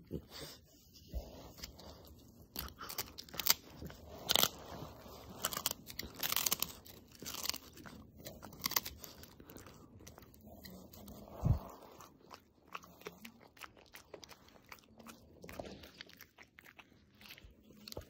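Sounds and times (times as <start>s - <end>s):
dog chewing crunchy chew: 0.0s - 18.0s.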